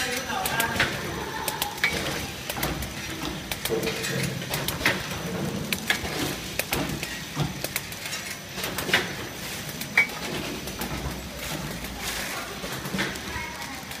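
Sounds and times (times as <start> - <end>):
machine clicks and clacks: 0.0 - 14.0.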